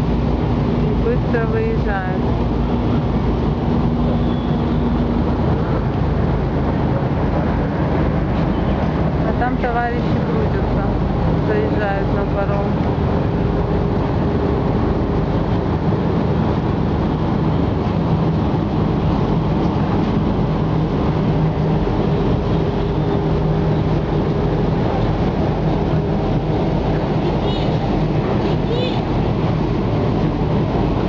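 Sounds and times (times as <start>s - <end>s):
ferry engines droning: 0.0s - 31.0s.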